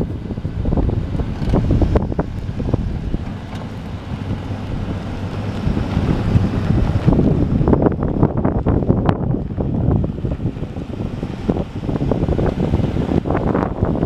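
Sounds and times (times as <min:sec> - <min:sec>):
pickup truck engine driving off: 0:00.0 - 0:14.0
wind buffeting microphone: 0:00.0 - 0:14.0.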